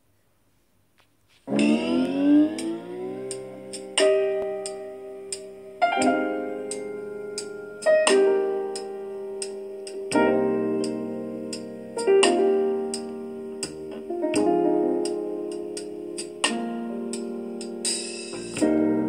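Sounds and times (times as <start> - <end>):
piano chords: 1.4 - 19.0
light ticking beat: 1.6 - 19.0.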